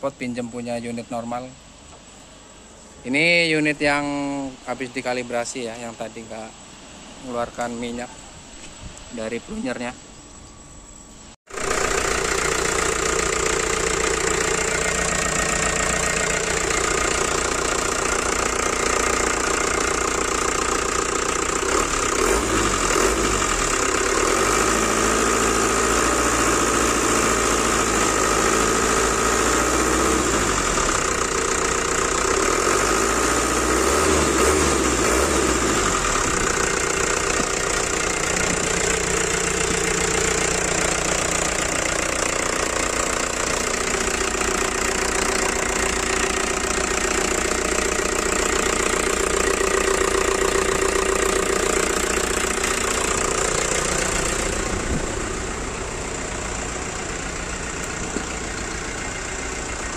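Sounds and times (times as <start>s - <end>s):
diesel truck engine idling and revving: 10.9s - 59.9s.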